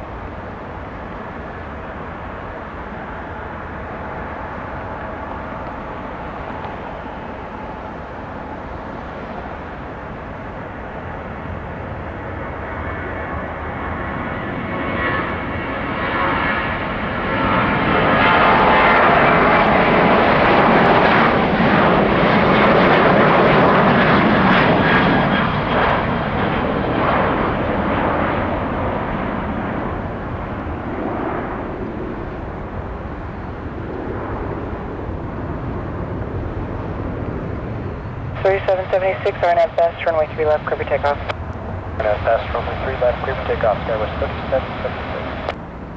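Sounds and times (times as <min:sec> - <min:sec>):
jet taking off: 0:00.0 - 0:45.9.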